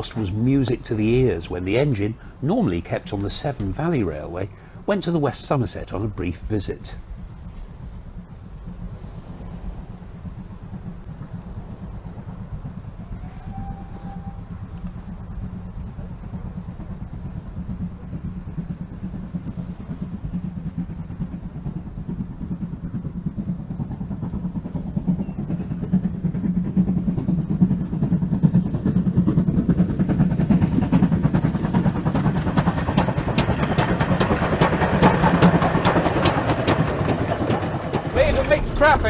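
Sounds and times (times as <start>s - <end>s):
steam locomotive exhaust beats: 0.0s - 39.0s
wheels clicking on rails: 0.0s - 39.0s.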